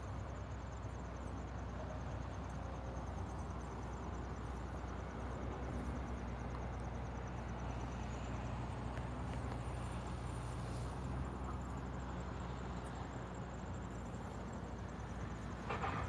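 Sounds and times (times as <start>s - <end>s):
insect chirping: 0.0s - 9.1s, 11.7s - 16.0s.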